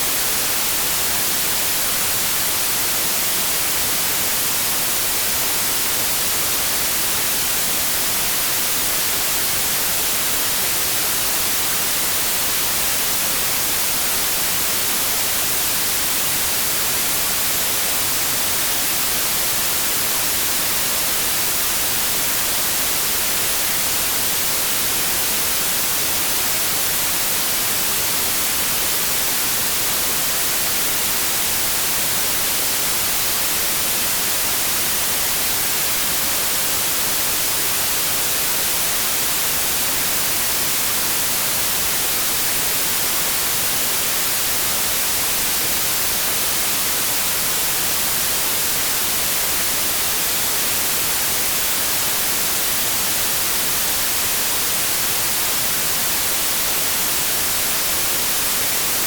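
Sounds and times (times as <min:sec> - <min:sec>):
white noise static hiss: 0:00.0 - 0:59.0.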